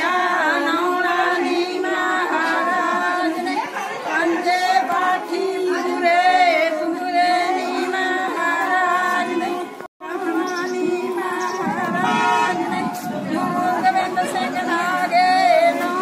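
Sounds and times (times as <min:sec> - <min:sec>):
women singing without instruments: 0:00.0 - 0:16.0.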